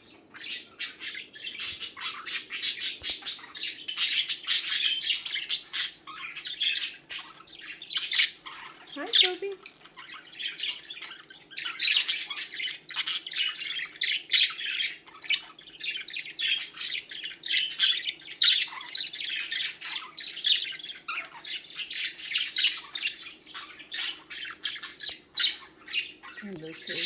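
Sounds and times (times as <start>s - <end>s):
budgerigars chattering and warbling: 0.0s - 27.0s.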